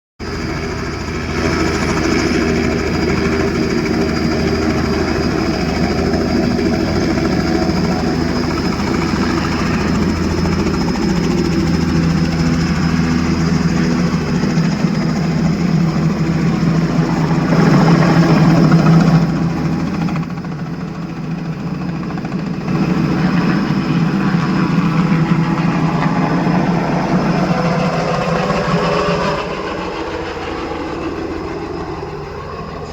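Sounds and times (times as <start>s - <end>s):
helicopter turbine and rotor: 0.2s - 32.9s.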